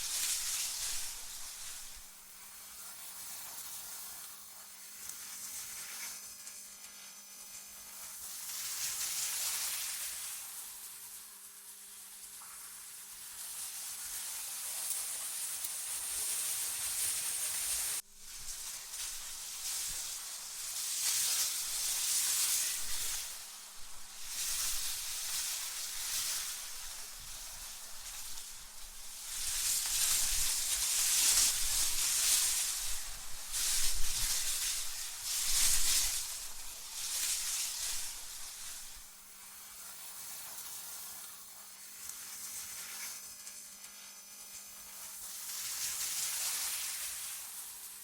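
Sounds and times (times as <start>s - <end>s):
wind-like hiss in gusts: 0.0s - 6.2s, 7.9s - 41.5s.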